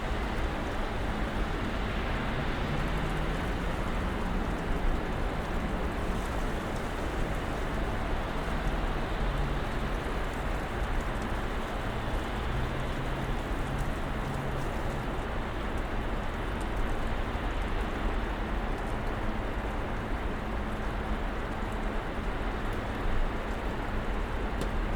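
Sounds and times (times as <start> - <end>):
steady snowstorm hiss: 0.0 - 24.9.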